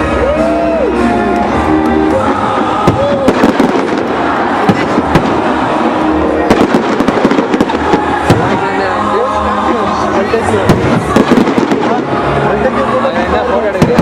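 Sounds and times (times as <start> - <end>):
loud music: 0.0 - 14.0
fireworks bangs and crackles: 1.3 - 14.0.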